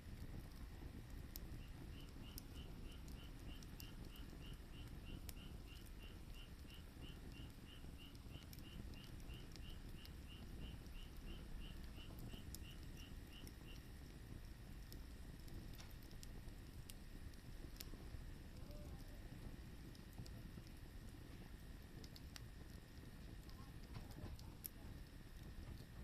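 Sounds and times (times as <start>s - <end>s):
firewood crackling: 0.0s - 26.0s.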